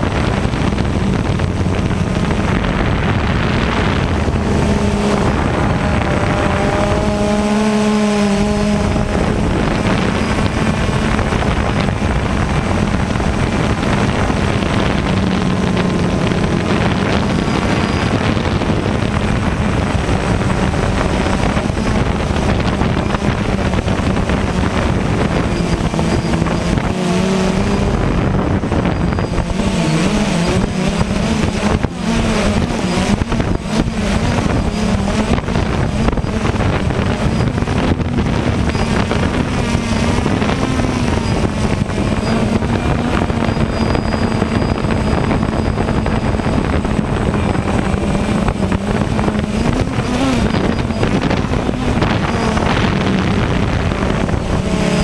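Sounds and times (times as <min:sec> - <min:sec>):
drone motors buzzing: 0:00.0 - 0:55.0
high whining tones: 0:00.0 - 0:55.0.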